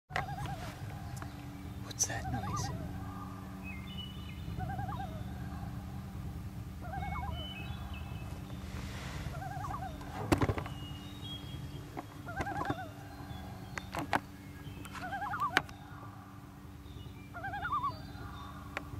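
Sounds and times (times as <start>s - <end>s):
loon calling: 0.1s - 18.9s.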